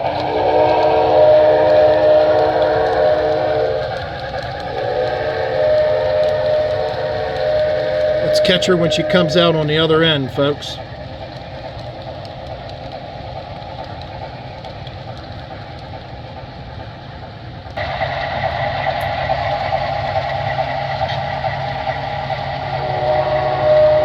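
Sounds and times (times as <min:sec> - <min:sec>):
model train motor hum: 0:00.0 - 0:24.0.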